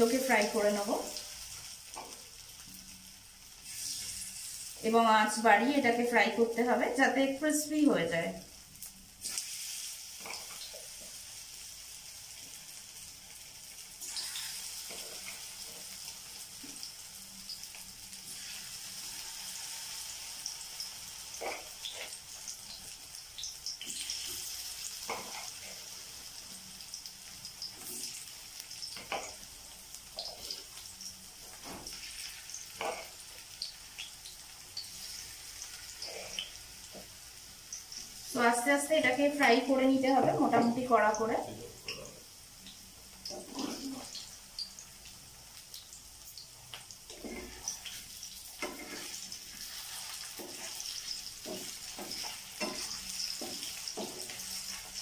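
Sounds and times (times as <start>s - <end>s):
florets sizzling in hot oil: 0.0s - 55.0s.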